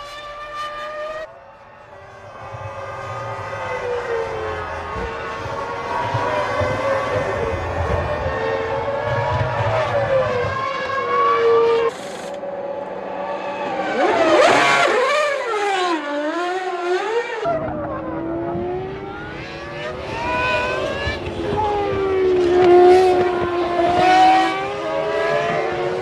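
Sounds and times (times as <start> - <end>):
racing car engines at high revs: 0.0 - 26.0.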